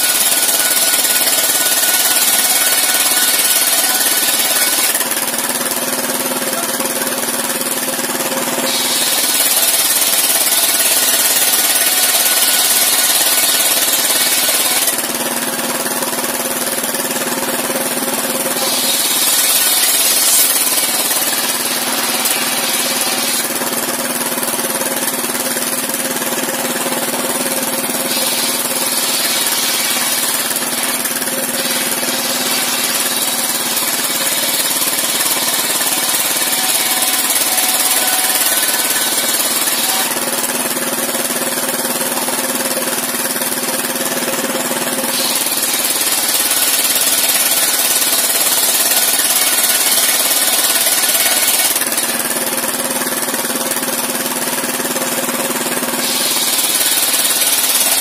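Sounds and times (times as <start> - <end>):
circular saw ripping wood: 0.0 - 6.5, 8.4 - 41.8, 44.3 - 53.5, 55.5 - 58.0
engine running steadily: 0.0 - 58.0.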